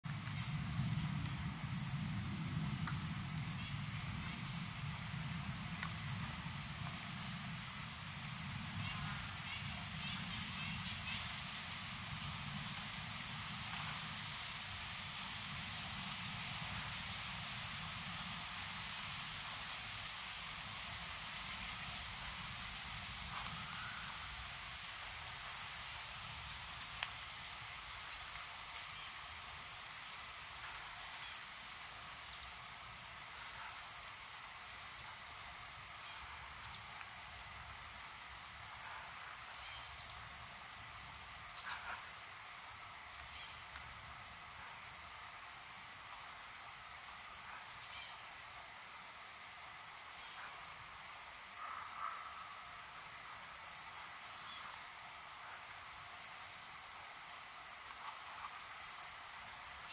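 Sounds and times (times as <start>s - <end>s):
high-pitched insect hiss: 0.1s - 59.9s.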